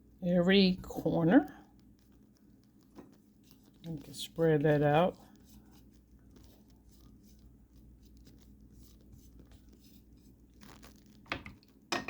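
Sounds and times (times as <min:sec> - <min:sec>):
soft scratching and rustling: 0:00.6 - 0:11.8.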